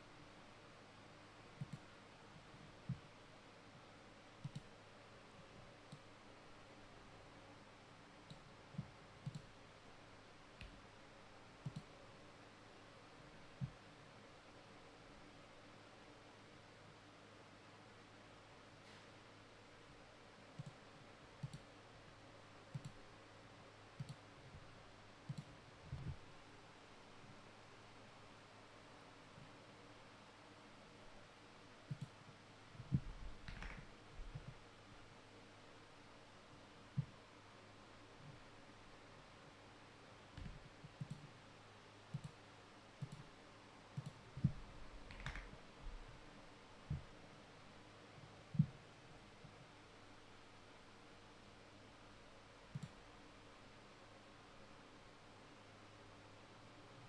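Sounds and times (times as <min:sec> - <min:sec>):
low steady hiss: 0:00.0 - 0:57.0
low steady hum: 0:00.0 - 0:57.0.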